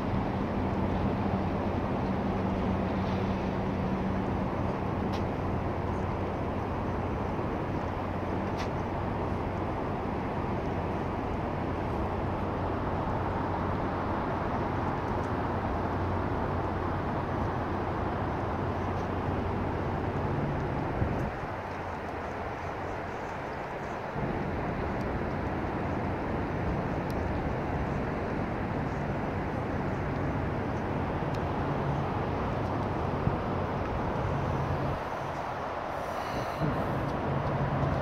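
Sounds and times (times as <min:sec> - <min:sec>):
distant freeway traffic: 0:00.0 - 0:38.0
low engine hum: 0:00.0 - 0:38.0.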